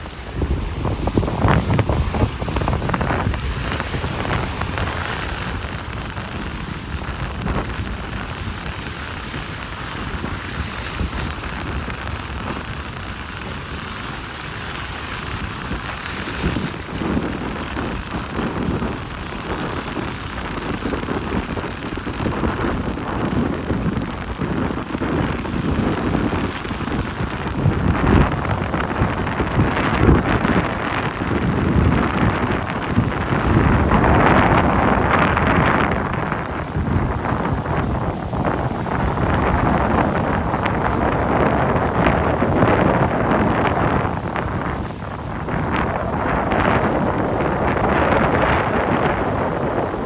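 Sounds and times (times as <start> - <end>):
steady rushing hiss: 0.0 - 50.0
wind buffeting microphone: 0.0 - 50.0.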